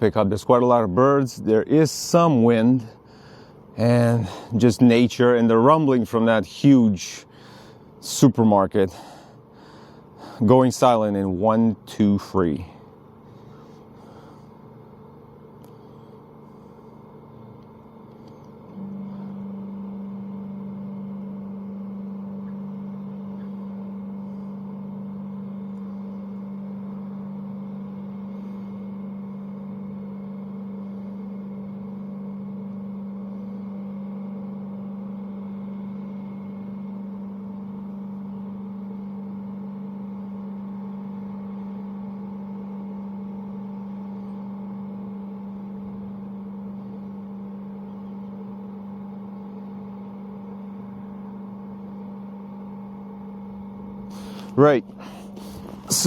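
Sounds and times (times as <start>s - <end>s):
low machinery hum: 0.0s - 56.0s.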